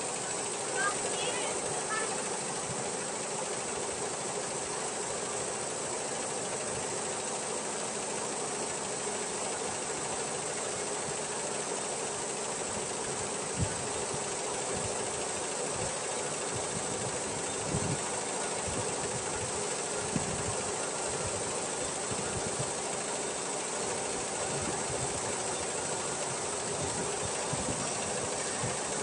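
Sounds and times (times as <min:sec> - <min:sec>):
embroidery machine running: 0:00.0 - 0:29.0.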